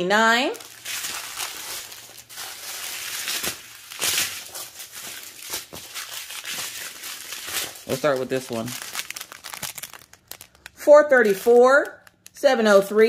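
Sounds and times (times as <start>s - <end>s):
plastic bags crinkling: 0.0s - 12.4s.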